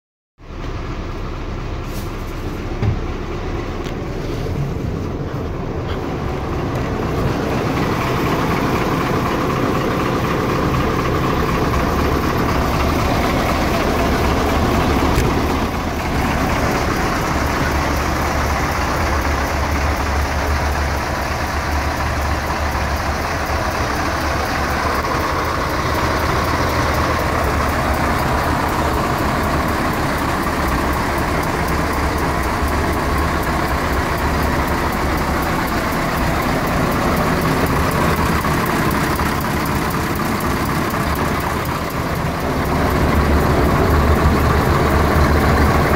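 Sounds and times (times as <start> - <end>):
diesel truck engine running: 0.4 - 45.9.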